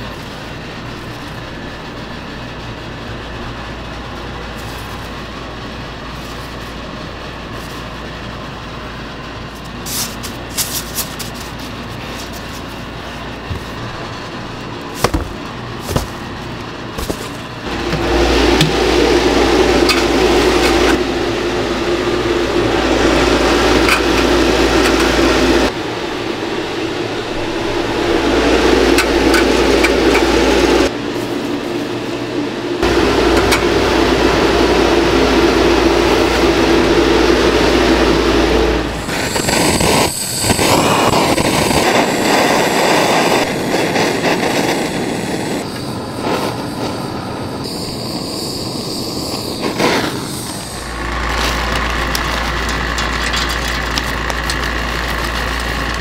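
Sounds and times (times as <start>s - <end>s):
gas torch flame hissing: 0.0s - 56.0s
machine hum with low rumble: 0.0s - 56.0s.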